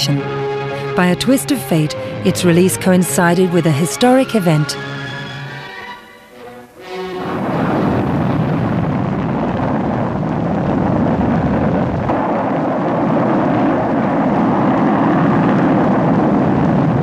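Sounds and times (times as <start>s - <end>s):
rocket engines roaring: 0.0s - 17.0s.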